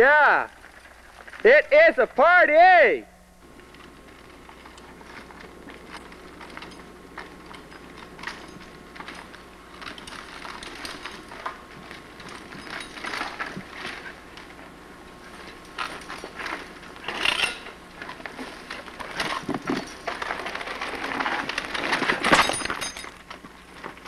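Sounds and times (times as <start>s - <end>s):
bikes rattling over rocks: 0.0s - 1.5s, 3.6s - 24.0s.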